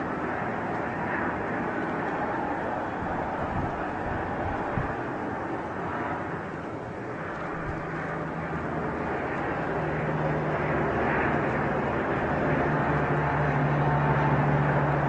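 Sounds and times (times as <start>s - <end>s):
helicopter engines and rotor: 0.0s - 15.0s.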